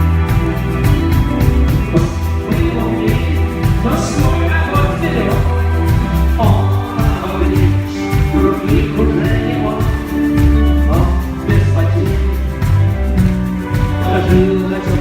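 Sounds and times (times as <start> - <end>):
person singing: 0.0 - 15.0
rock band playing live: 0.0 - 15.0.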